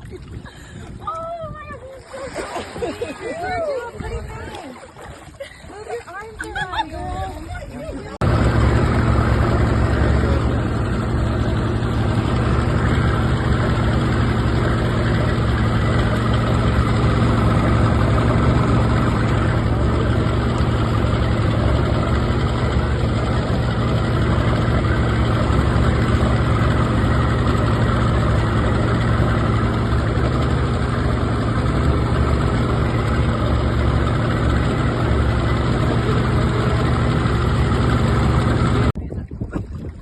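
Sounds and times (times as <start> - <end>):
boat motor humming: 0.0 - 40.0.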